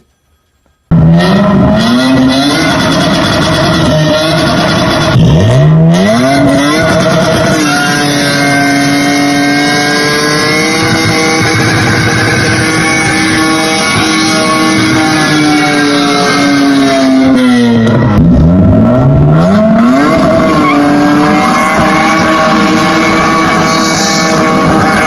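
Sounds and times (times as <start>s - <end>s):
car engine revving: 0.9s - 25.0s.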